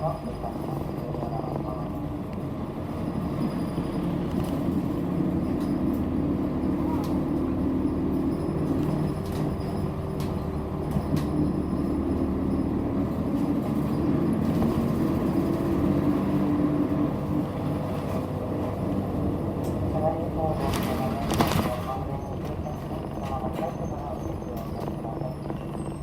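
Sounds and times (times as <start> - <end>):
bus engine drone: 0.0 - 26.0
road rumble: 0.0 - 26.0.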